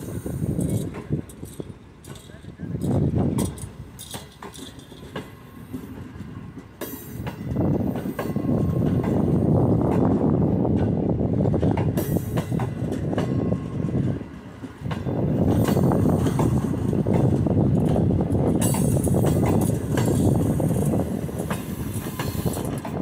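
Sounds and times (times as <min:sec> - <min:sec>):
train wheels rumbling on rails: 0:00.0 - 0:23.0
wheels clacking over rail joints: 0:00.0 - 0:23.0.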